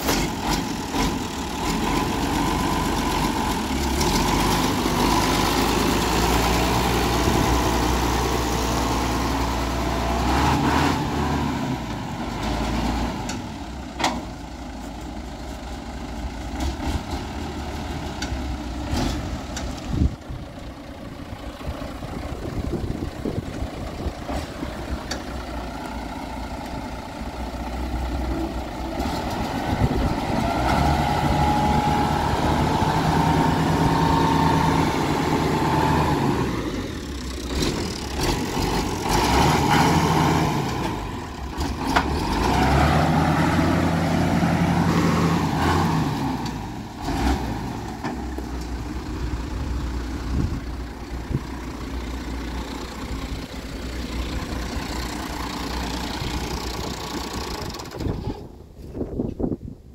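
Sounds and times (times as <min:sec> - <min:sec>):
tractor diesel engine revving: 0:00.0 - 0:59.0.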